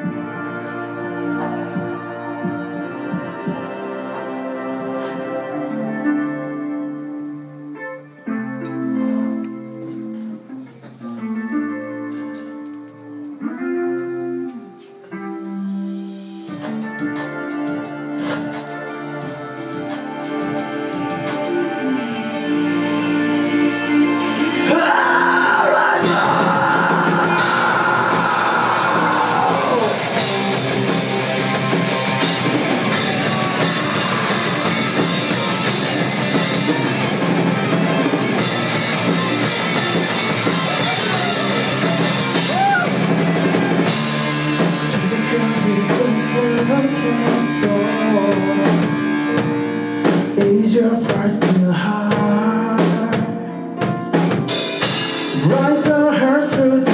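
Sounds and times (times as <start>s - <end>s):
rock band playing live: 0.0s - 56.9s.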